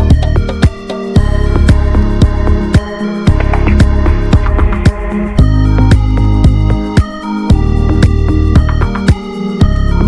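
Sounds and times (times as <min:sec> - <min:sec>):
electronic music with synth chords: 0:00.0 - 0:10.0.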